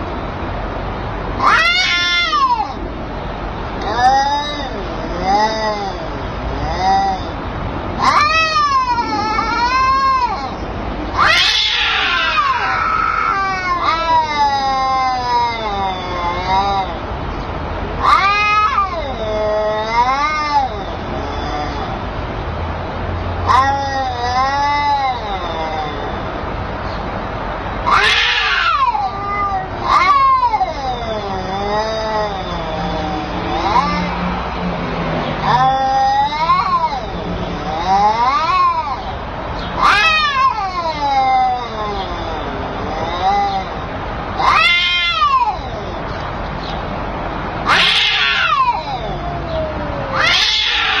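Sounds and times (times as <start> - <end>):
cat yowling: 1.4 - 2.8, 3.8 - 17.2, 17.8 - 22.2, 23.4 - 26.8, 27.6 - 34.6, 35.2 - 51.0.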